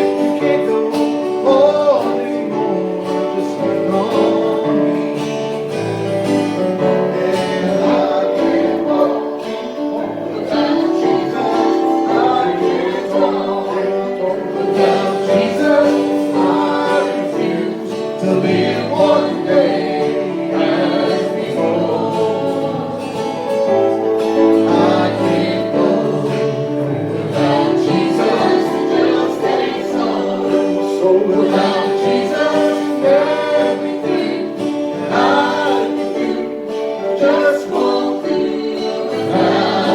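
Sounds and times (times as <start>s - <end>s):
acoustic guitar: 0.0s - 39.9s
person singing gospel song: 0.0s - 39.9s.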